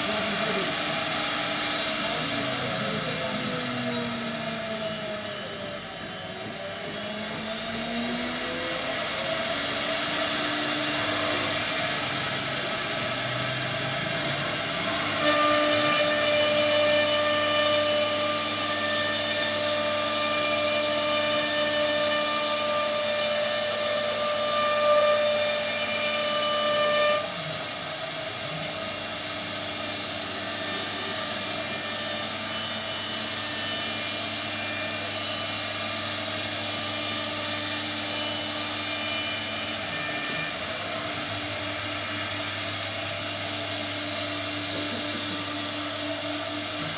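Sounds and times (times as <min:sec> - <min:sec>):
router spindle whining: 0:00.0 - 0:24.6, 0:27.1 - 0:46.9.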